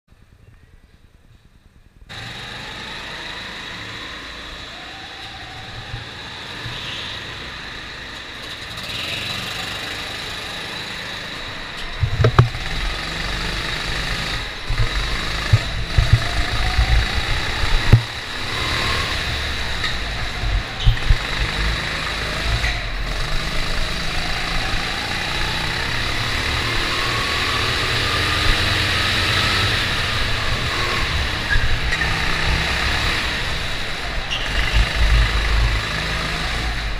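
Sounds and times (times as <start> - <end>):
go-kart engine revving: 2.1 - 36.9
go-kart engines running: 2.1 - 36.9.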